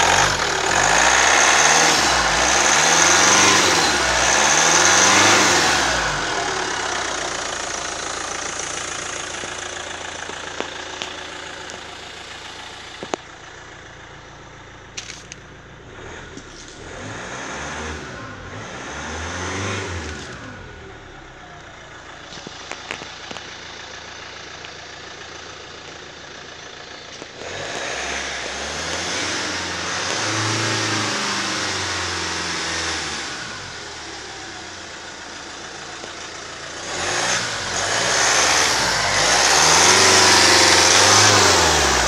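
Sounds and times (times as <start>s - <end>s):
diesel engine revving: 0.0s - 42.0s.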